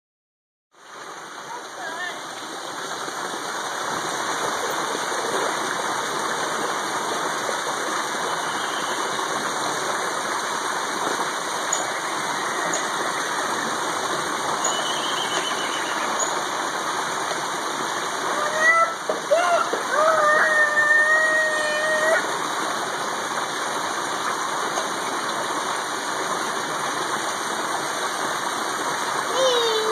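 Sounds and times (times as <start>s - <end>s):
waterfall splashing into pond: 0.8s - 29.9s.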